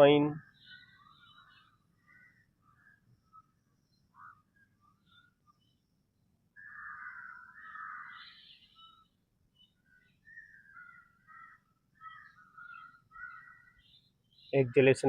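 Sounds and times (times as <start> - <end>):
bird chirps: 0.0 - 15.0.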